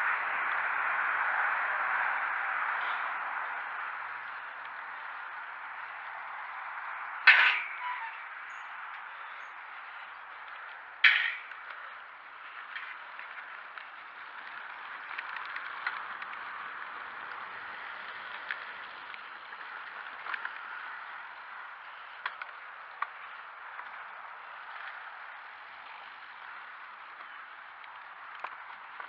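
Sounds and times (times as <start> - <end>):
bike ticks and rattles: 0.0 - 29.0.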